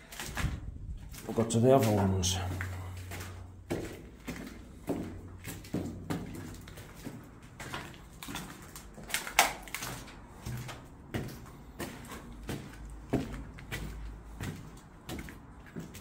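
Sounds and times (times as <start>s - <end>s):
footsteps crunching on gritty concrete: 0.0s - 16.0s.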